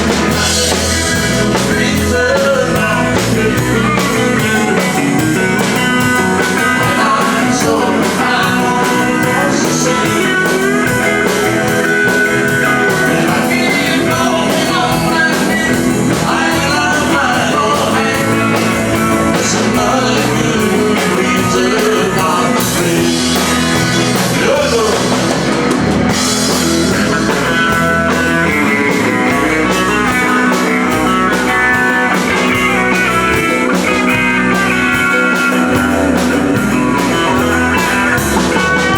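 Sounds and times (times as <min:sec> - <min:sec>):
electric guitar: 0:00.0 - 0:38.9
live rock country band: 0:00.0 - 0:38.9.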